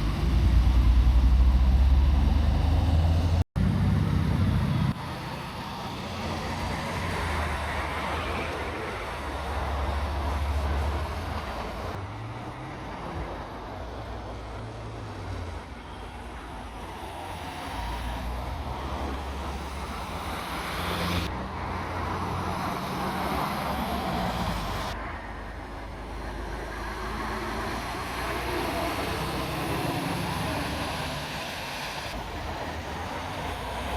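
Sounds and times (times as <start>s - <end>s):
lorry engines rumbling: 0.0s - 33.9s
road traffic passing: 0.0s - 33.9s.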